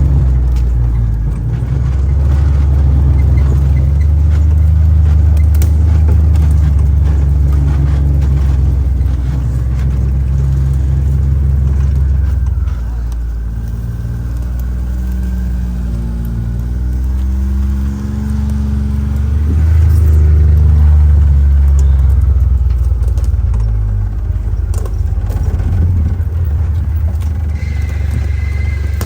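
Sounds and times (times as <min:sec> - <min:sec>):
knocks and rattles: 0:00.0 - 0:29.0
utility vehicle engine running: 0:00.0 - 0:29.0.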